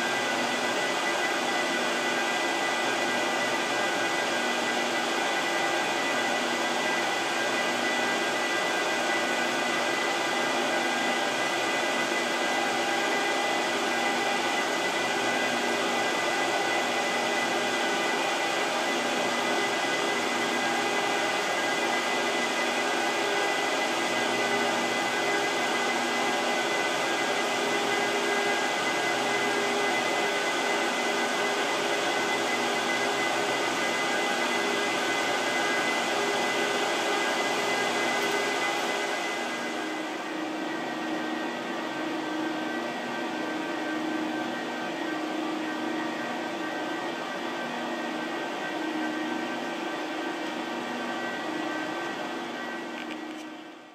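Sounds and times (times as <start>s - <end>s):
server cooling fans whirring: 0.0s - 53.9s.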